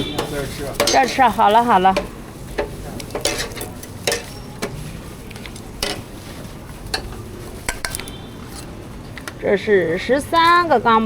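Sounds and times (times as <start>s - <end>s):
utensils clinking against pots: 0.0s - 9.4s.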